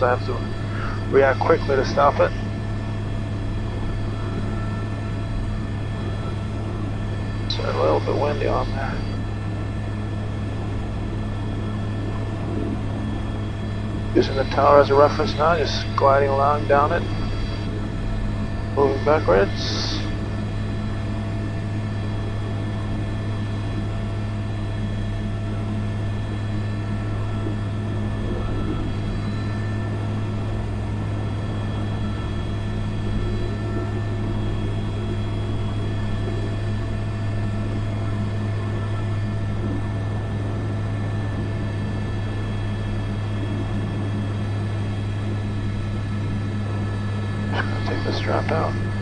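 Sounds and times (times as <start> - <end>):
helicopter turbine and rotors drone: 0.0 - 49.0.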